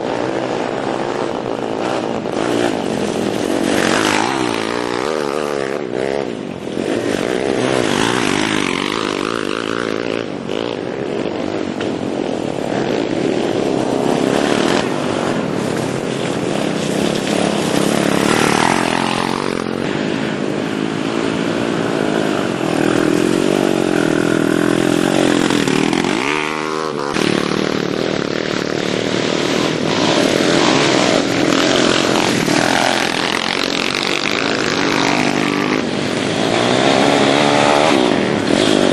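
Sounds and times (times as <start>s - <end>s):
small motorbike engines revving: 0.0s - 38.9s.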